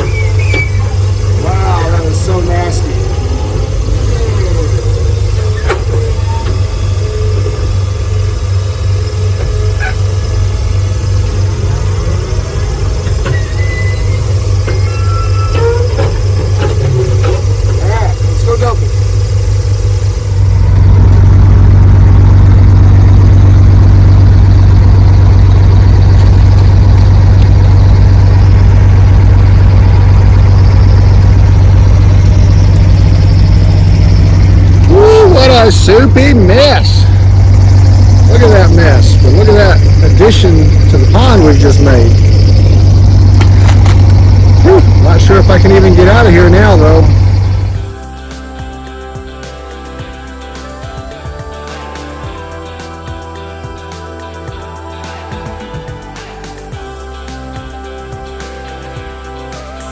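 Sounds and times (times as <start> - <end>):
heavy diesel engine droning: 0.0 - 59.9.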